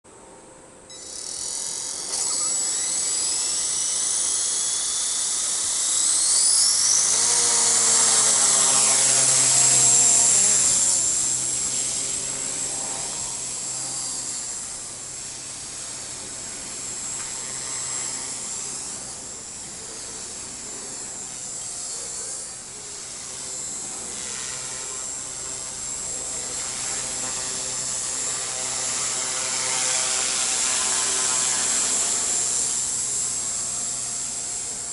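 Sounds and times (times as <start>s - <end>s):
low rotor hum: 0.9s - 34.9s
rc helicopter motor whine: 0.9s - 34.9s.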